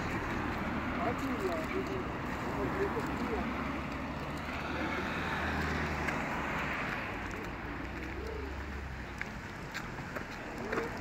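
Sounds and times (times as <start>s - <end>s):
passing car traffic: 0.0s - 11.0s.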